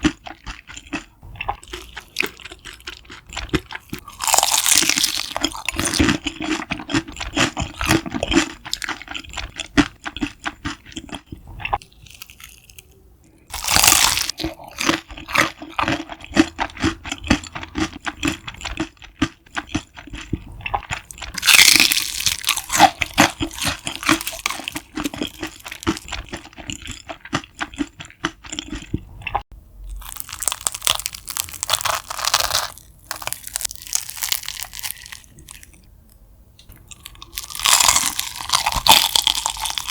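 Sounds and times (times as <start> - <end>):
crunching crispy food: 0.0 - 35.9, 36.7 - 39.9.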